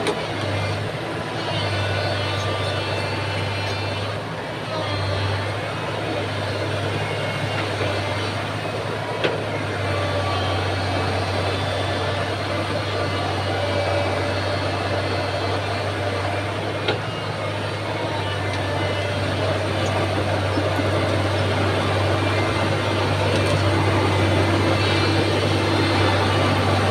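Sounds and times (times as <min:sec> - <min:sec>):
excavator diesel engine droning: 0:00.0 - 0:26.9.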